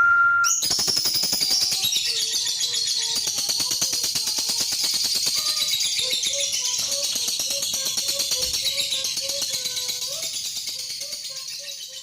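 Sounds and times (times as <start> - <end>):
lovebird buzzing chatter: 0.6 - 12.0.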